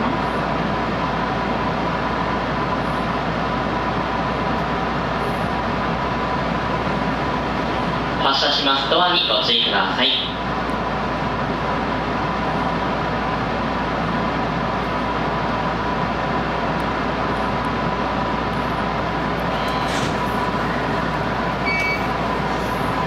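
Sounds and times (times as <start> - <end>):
electric train equipment hum: 0.0 - 23.0.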